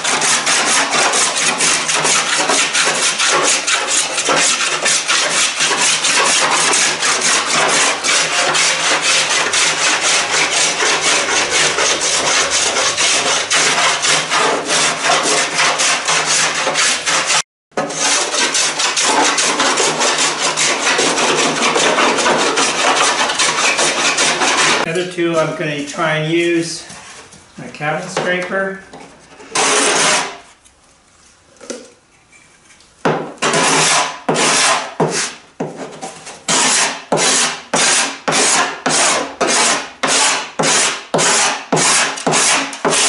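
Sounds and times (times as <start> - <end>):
hand plane rasping on wood: 0.0 - 24.9, 29.4 - 30.5, 33.4 - 43.0.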